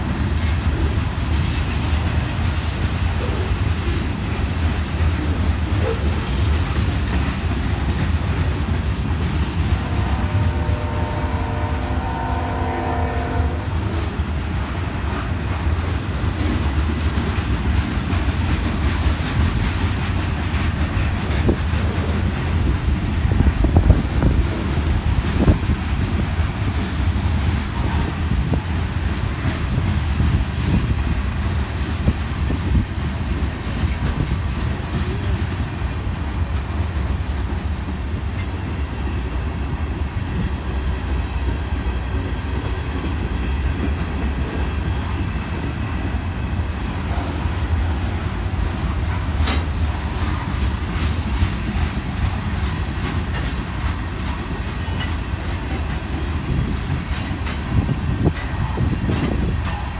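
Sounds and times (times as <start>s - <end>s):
wheels clacking over rail joints: 0.0s - 11.7s, 14.9s - 59.9s
train rumbling: 0.0s - 59.9s.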